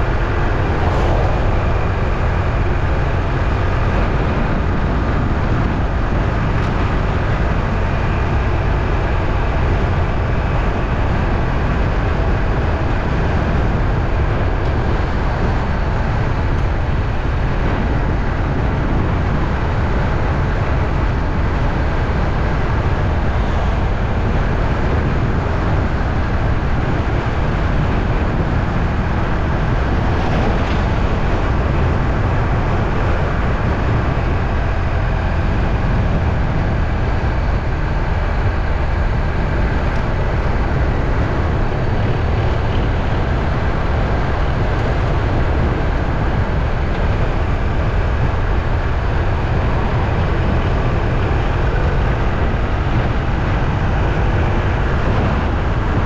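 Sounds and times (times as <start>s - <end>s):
moving vehicle rumble: 0.0s - 56.0s.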